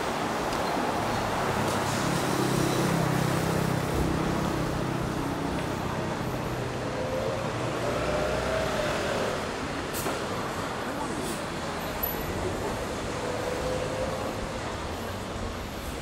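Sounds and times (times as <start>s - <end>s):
bus engine droning: 0.0s - 16.0s
street traffic: 0.0s - 16.0s.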